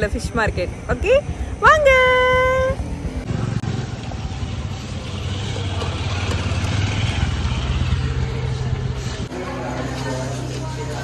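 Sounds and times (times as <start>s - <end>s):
motorcycle engines running: 1.2s - 11.0s.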